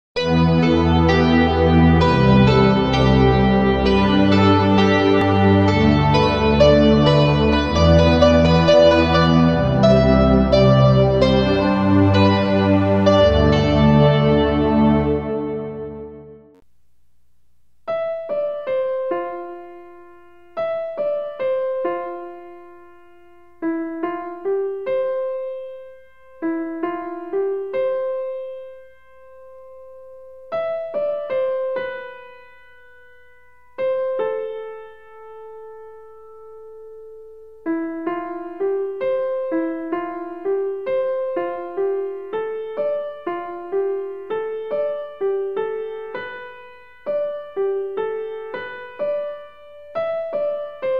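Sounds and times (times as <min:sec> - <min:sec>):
gentle piano melody: 0:00.2 - 0:16.6, 0:17.9 - 0:50.9.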